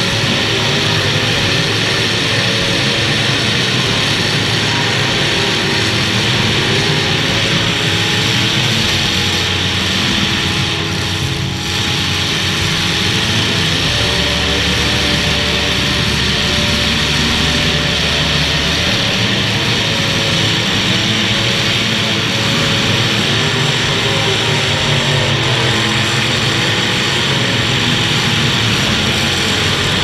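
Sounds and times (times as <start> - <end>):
unmuffled car engines revving: 0.0 - 30.0.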